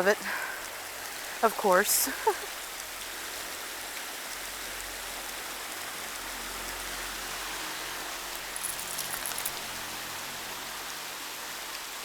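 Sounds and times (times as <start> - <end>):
snowstorm steady hiss: 0.0 - 12.0.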